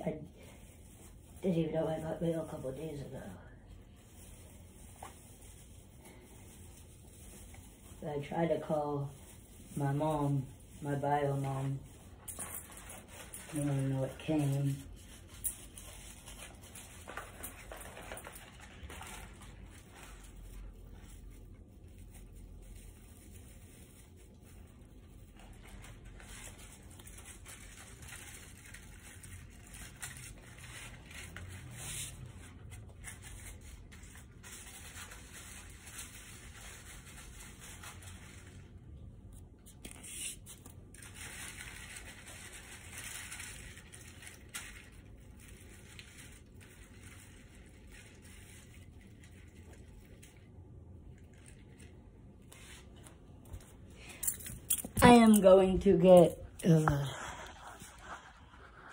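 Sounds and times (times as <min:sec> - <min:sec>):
faint rustling and rubbing: 0:00.0 - 0:58.9.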